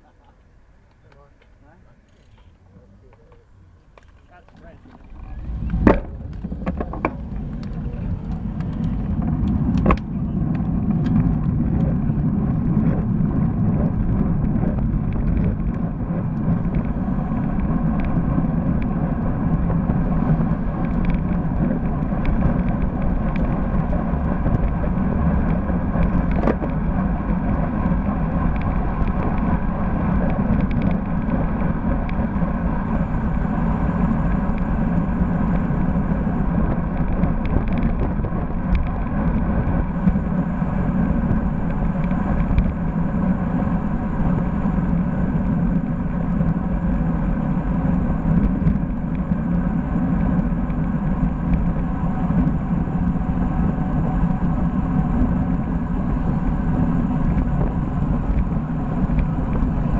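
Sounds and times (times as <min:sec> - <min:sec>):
wind buffeting microphone: 0:04.3 - 0:59.9.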